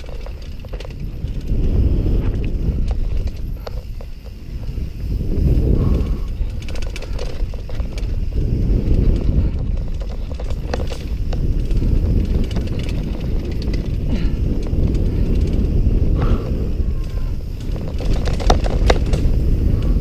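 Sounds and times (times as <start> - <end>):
bike rattling over bumps: 0.0 - 20.0
tyres on dirt: 0.0 - 20.0
wind on microphone: 0.0 - 20.0.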